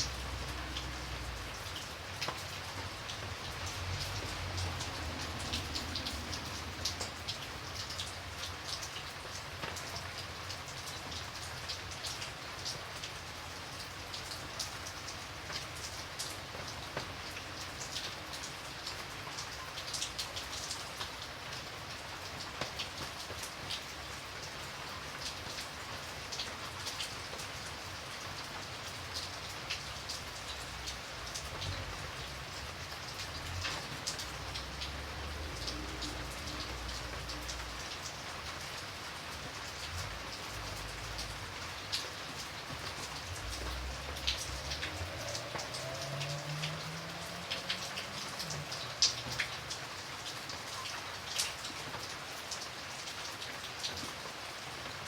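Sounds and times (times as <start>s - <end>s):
rain drops tapping on surface: 0.0s - 55.0s.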